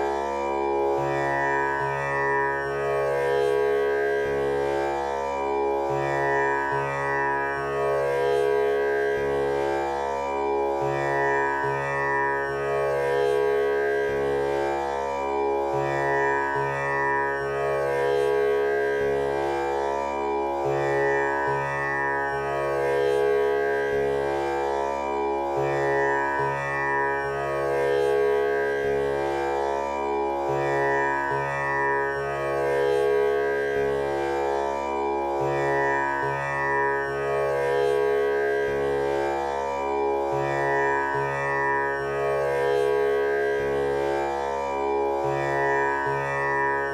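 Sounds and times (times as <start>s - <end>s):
tanpura drone: 0.0s - 46.9s.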